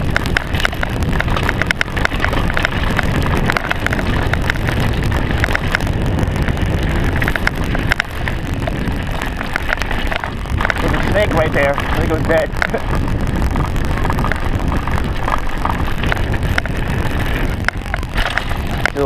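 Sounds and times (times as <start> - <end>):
bike rattling over rocks: 0.0 - 19.0
wind rumbling on microphone: 0.0 - 19.0.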